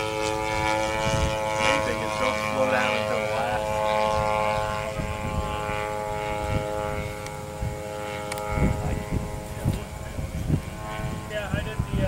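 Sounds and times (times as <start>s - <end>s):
propeller airplane engine in flight: 0.0s - 12.0s.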